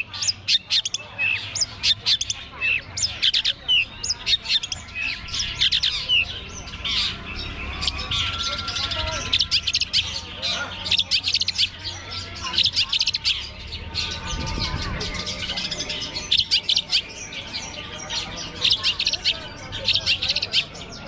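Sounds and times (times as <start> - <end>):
birds chattering: 0.0 - 21.0.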